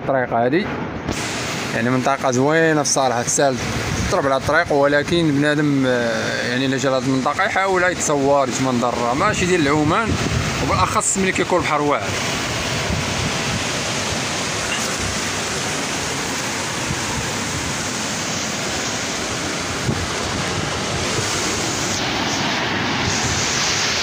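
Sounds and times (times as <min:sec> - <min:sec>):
sea surf washing ashore: 0:00.6 - 0:24.0.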